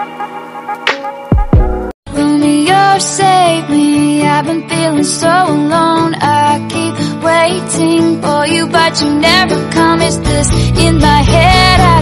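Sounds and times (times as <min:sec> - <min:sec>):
person singing a melody: 0:02.1 - 0:12.0.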